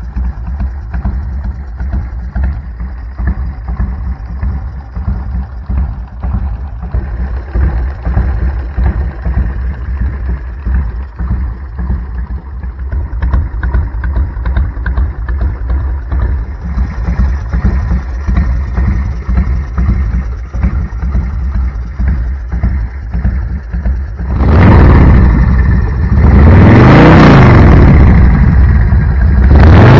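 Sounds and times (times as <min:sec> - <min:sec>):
motorcycle engine idling: 0:00.0 - 0:29.7.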